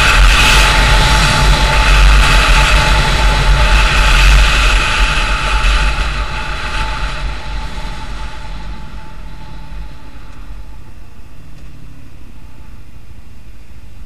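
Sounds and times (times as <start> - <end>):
vehicle wind and road noise: 0.0 - 14.0.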